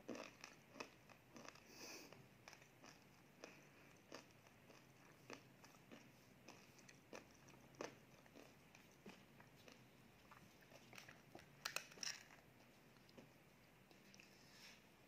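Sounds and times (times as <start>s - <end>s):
chewing with wet mouth clicks: 0.1s - 13.3s.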